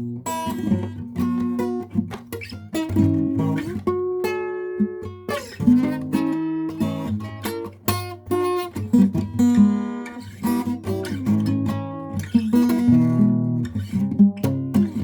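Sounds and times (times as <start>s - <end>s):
acoustic guitar playing blues: 0.0s - 15.0s.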